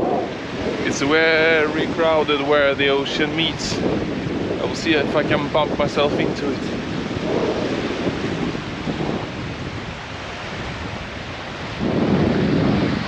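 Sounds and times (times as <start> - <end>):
waves washing on sandy shore: 0.0 - 13.0
wind rumbling on microphone: 0.0 - 13.0.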